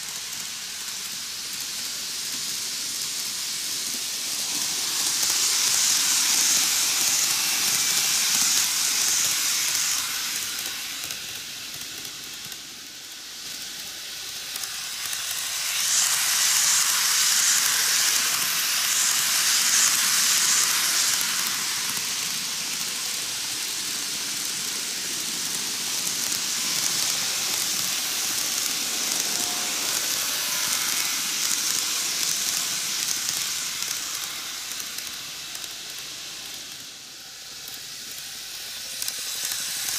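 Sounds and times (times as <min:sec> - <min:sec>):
model trains hissing on rails: 0:00.0 - 0:39.9.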